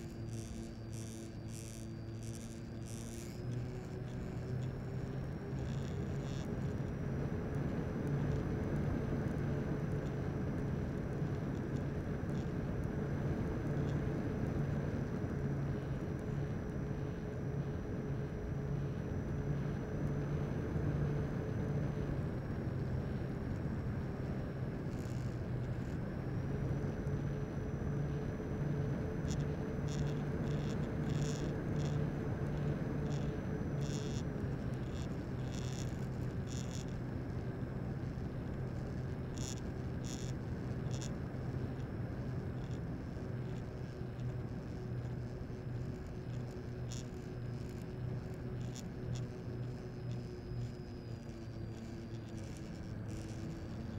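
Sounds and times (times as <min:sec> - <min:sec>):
low motor hum: 0:00.0 - 0:53.9
thin high whine: 0:00.0 - 0:53.9.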